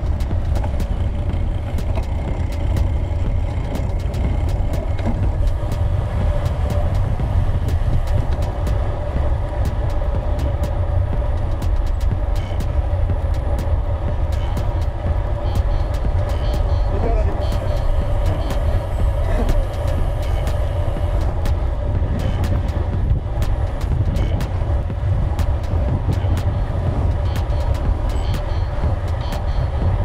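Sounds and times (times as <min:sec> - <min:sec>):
tyres rolling on trail: 0:00.0 - 0:30.0
wind rumbling on microphone: 0:00.0 - 0:30.0.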